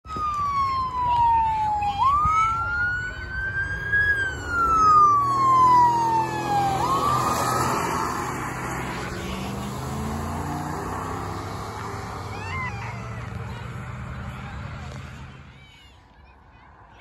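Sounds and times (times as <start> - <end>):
vehicle engines rumbling: 0.0 - 17.0
emergency siren wailing: 0.1 - 14.3.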